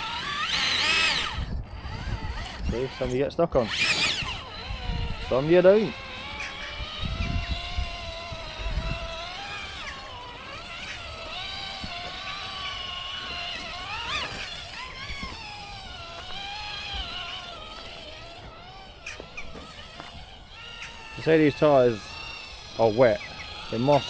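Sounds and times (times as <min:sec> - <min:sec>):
toy truck electric motor whining: 0:00.0 - 0:24.0.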